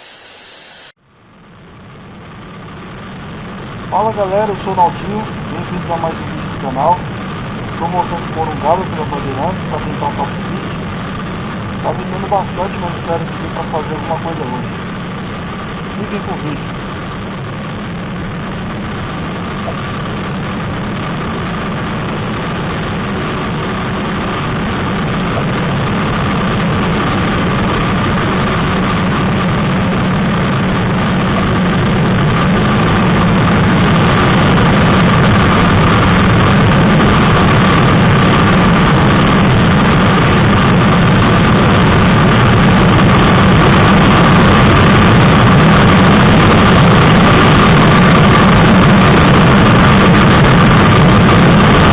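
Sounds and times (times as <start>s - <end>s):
wind rush: 2.1s - 51.9s.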